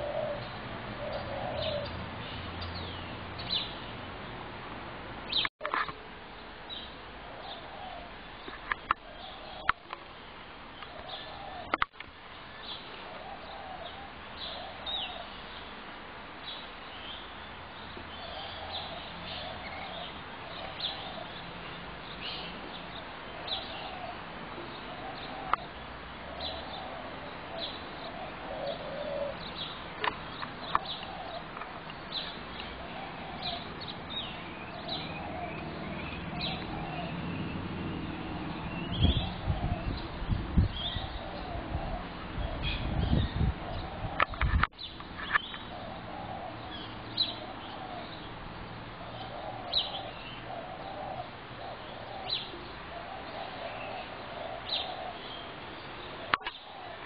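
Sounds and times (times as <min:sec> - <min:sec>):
doves cooing: 0:00.0 - 0:02.2, 0:07.2 - 0:09.9, 0:10.8 - 0:11.8, 0:12.9 - 0:15.4, 0:18.1 - 0:57.0
small birds chirping: 0:00.0 - 0:04.6, 0:05.2 - 0:57.0.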